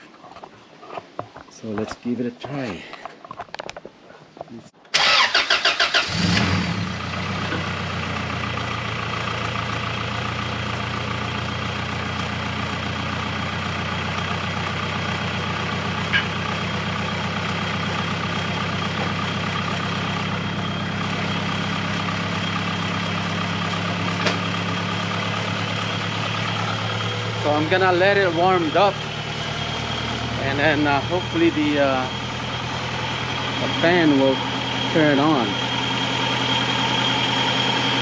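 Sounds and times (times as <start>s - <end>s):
car engine idling: 5.0s - 38.0s.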